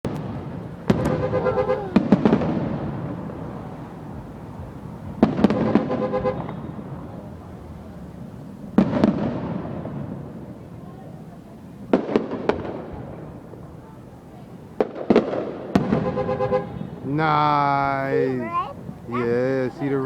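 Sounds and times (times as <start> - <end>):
fireworks bangs with rumbling tail: 0.1 - 19.8.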